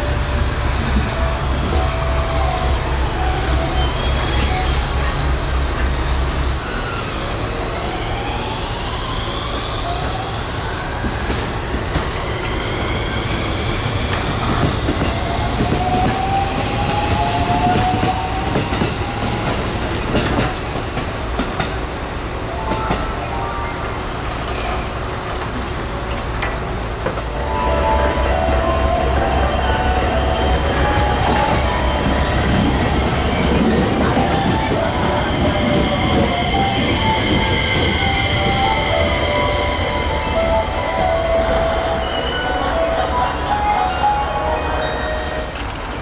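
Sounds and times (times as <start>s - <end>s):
electric train passing: 0.0s - 46.0s
train whine: 0.0s - 46.0s.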